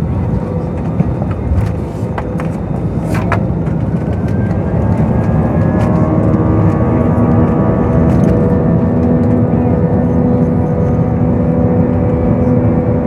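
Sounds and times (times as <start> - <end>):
jet engine whine rising: 0.0 - 11.3
jet engines rumbling: 0.0 - 13.0.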